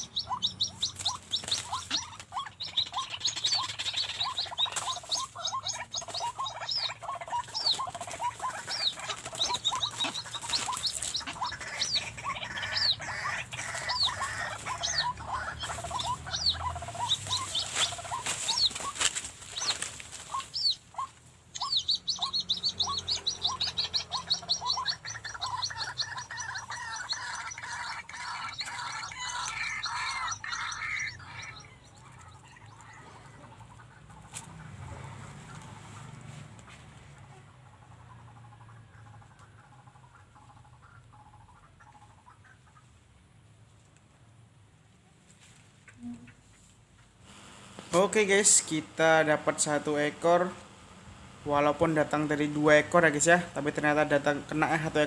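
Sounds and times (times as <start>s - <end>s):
waterhens calling: 0.0s - 43.0s, 45.8s - 55.0s.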